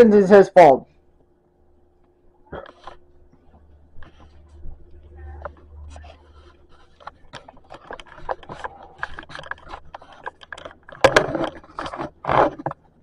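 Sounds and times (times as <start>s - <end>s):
scraping and clicking of handled objects: 2.5s - 13.0s.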